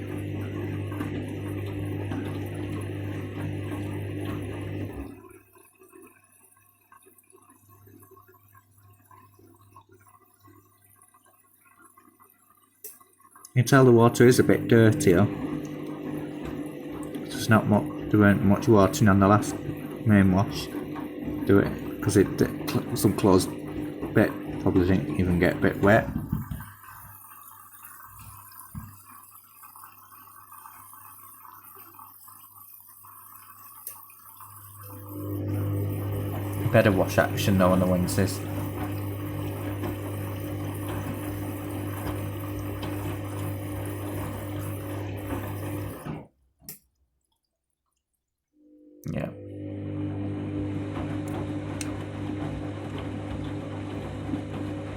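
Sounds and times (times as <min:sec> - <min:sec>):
water trickling and dripping: 0:00.0 - 0:14.6, 0:15.6 - 0:48.4
washing machine humming: 0:00.0 - 0:46.4, 0:48.6 - 0:54.9.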